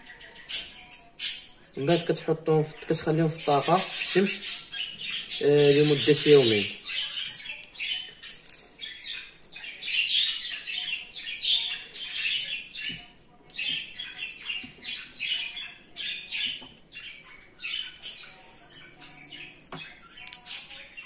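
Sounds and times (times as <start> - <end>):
budgerigars chirping: 0.0 - 13.0, 13.6 - 21.0.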